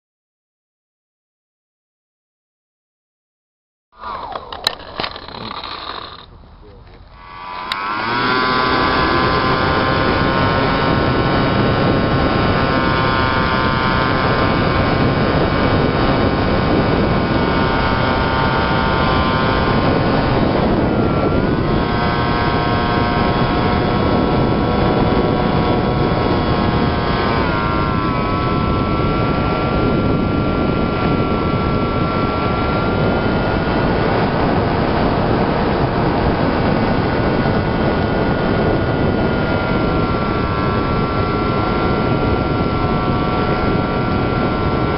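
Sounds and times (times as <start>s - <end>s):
model plane motor and propeller whine: 4.0s - 44.9s.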